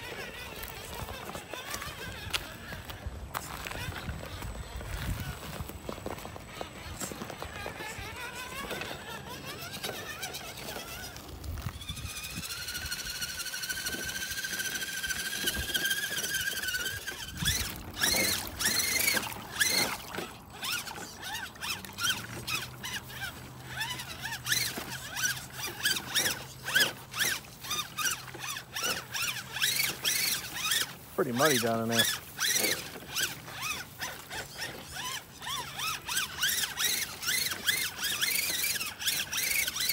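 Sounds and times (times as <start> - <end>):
electric motor whining: 0.0 - 39.9
mud splashing: 0.0 - 39.9.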